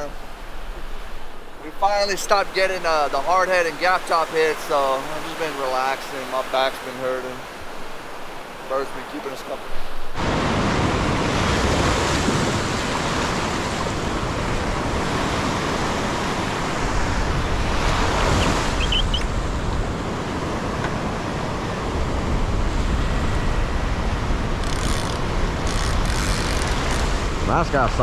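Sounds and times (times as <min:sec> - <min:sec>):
small waves breaking on sand: 0:00.0 - 0:28.0.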